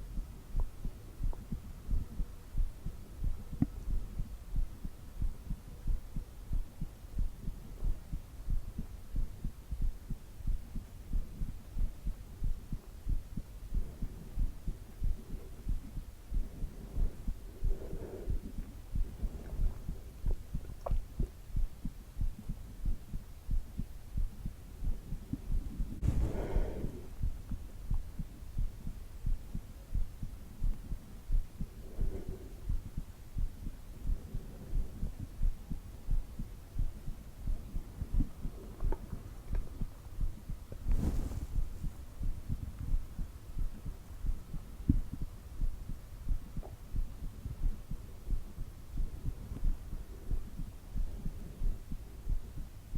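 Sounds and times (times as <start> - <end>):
heartbeat thumps: 0.0 - 52.9.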